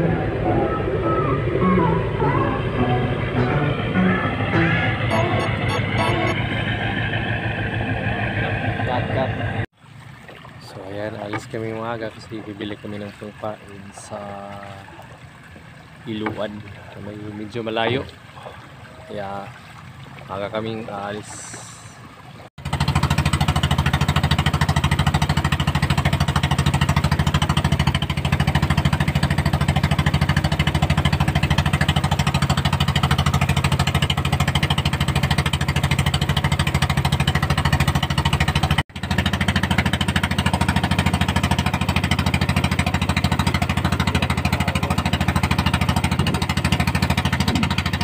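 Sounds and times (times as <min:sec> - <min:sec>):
small boat engine thumping: 0:01.4 - 0:48.0.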